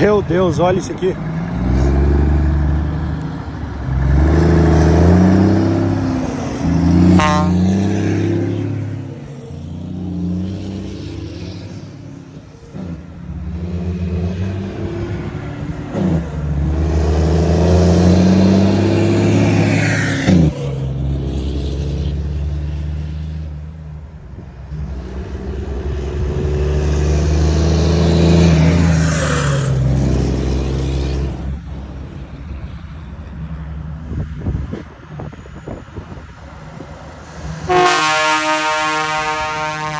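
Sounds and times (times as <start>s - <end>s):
deep diesel exhaust rumble: 0.0s - 39.9s
trucks driving past accelerating: 0.0s - 39.9s.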